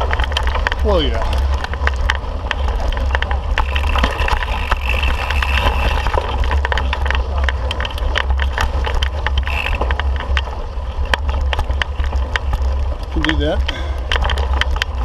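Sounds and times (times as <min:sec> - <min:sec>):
bike clicks and rattles: 0:00.0 - 0:15.0
bike rolling over rocky trail: 0:00.0 - 0:15.0
wind buffeting microphone: 0:00.0 - 0:15.0.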